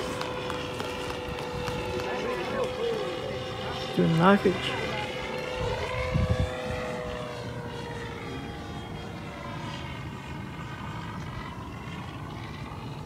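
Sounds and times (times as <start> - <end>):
model airplane propeller noise: 0.0 - 13.0
simulated radial engine drone: 0.0 - 13.0.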